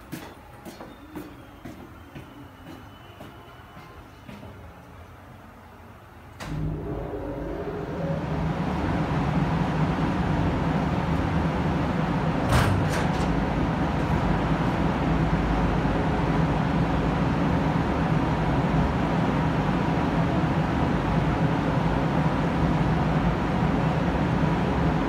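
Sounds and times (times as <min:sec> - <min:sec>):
ventilation hum and rushing air: 0:04.5 - 0:25.0.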